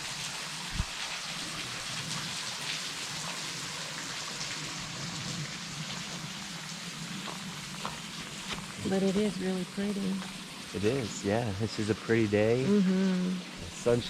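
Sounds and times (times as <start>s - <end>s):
small waterfall splashing: 0.0s - 14.0s.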